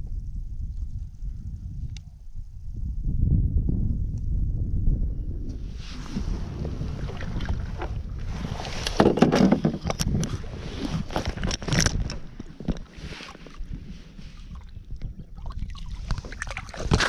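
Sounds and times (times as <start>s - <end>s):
water and wind rumble: 0.0s - 17.0s.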